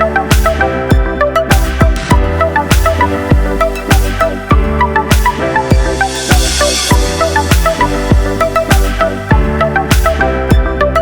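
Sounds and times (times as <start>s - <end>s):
electronic music: 0.0s - 11.0s
heavy kick drum: 0.3s - 10.8s.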